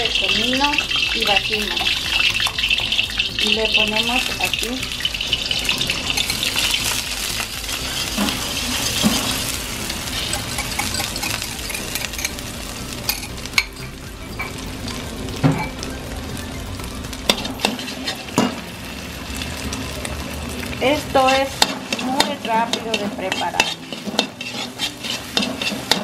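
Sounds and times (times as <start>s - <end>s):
metal skimmer scraping a wok: 0.0s - 15.0s, 17.3s - 18.6s, 20.9s - 26.0s
eggs sizzling in hot oil: 0.0s - 26.0s.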